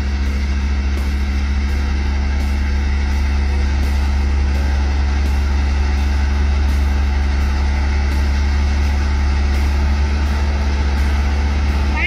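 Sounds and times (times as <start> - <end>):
bulldozer diesel engines droning: 0.0 - 12.0.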